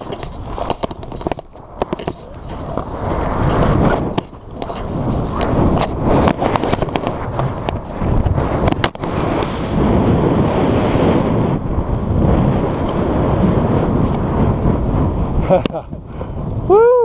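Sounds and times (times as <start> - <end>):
skis scraping over snow: 0.0 - 15.4
wind buffeting microphone: 0.0 - 17.0.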